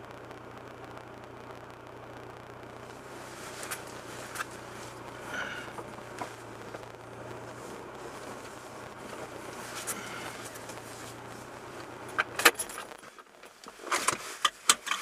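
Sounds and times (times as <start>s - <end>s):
car engine idling: 0.0s - 15.0s
sharp clicks and rattles: 0.0s - 15.0s.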